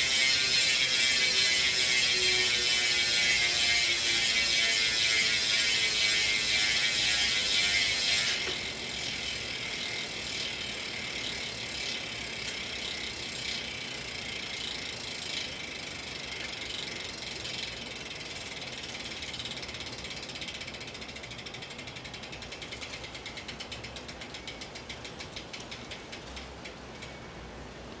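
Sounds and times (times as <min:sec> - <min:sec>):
bicycle hub freewheel buzzing: 0:00.0 - 0:27.2.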